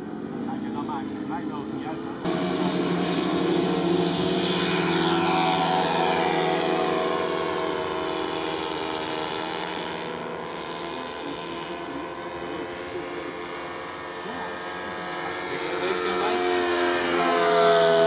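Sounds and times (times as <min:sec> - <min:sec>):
model airplane engine: 0:00.0 - 0:18.0.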